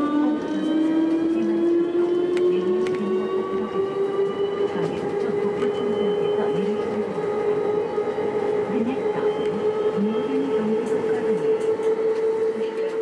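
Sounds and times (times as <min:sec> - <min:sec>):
electric train motor whine: 0:00.0 - 0:13.0.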